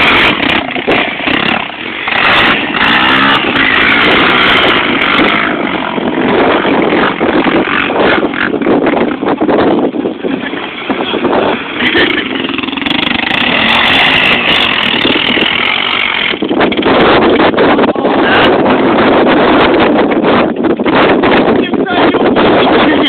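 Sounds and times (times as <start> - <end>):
quad engines revving: 0.0 - 19.8.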